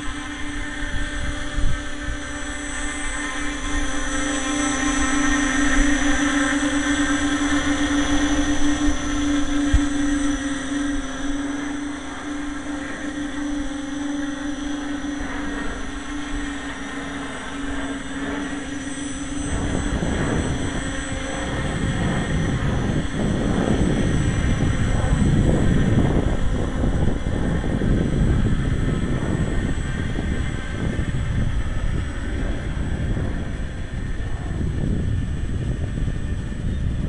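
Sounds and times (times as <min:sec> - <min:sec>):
drone motors humming: 0:00.0 - 0:37.0
wind buffeting microphone: 0:00.0 - 0:37.0.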